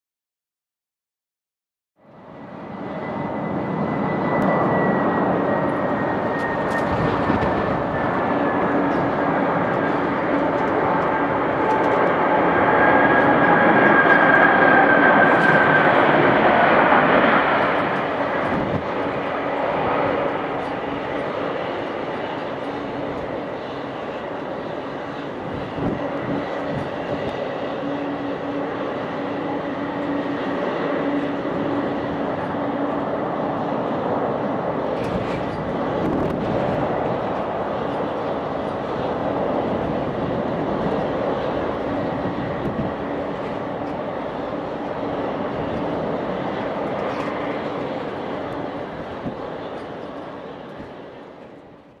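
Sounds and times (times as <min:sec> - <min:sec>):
jet engines rushing and whining: 0:02.0 - 0:52.0.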